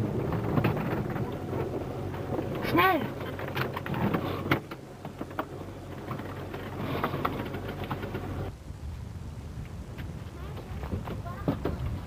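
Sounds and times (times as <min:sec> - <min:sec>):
vehicle low hum: 0:00.0 - 0:12.0.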